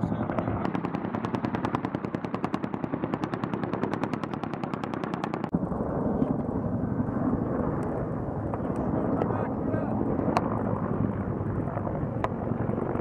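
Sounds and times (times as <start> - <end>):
helicopter sharp pulses: 0.0 - 13.0
steady rumble: 0.0 - 13.0.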